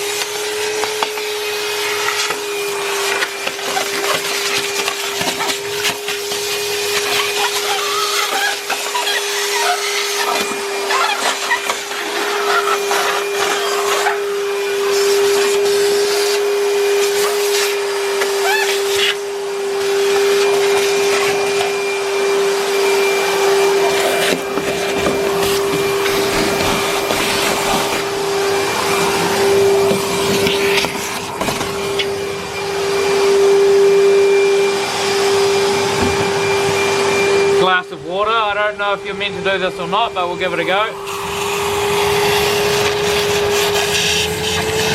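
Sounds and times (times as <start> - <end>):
shop vacuum whining: 0.0 - 44.9.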